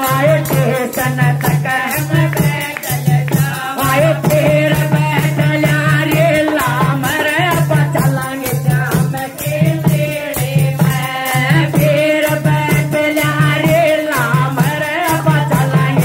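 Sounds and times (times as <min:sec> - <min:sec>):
jingling tambourine: 0:00.0 - 0:16.0
person singing folk song: 0:00.0 - 0:16.0.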